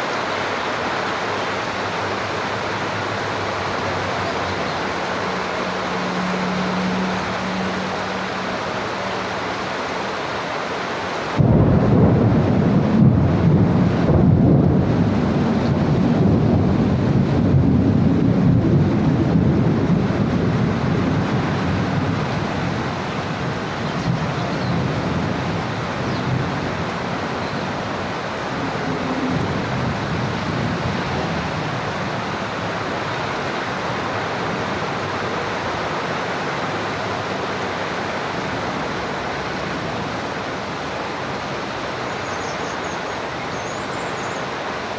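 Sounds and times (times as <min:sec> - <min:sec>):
rain hiss: 0:00.0 - 0:44.9
thunder rumble: 0:01.2 - 0:09.9, 0:11.3 - 0:42.1.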